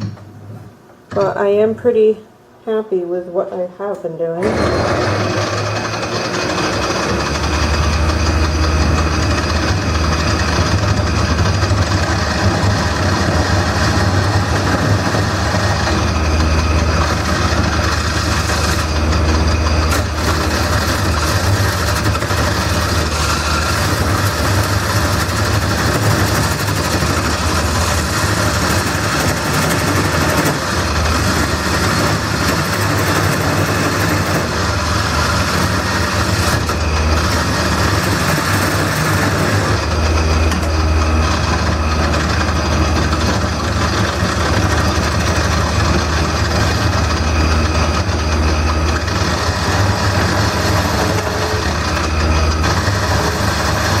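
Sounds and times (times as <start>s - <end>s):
lathe motor hum: 4.4s - 54.0s
turning tool scraping wood: 4.4s - 54.0s.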